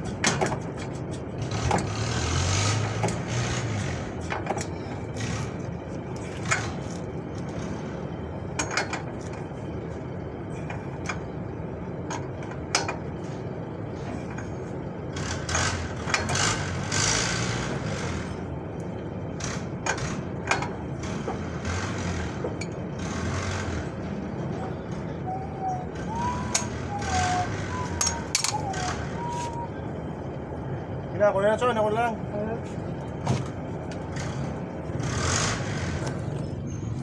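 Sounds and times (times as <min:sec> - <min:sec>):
low rumble of vehicles: 0:00.0 - 0:37.0.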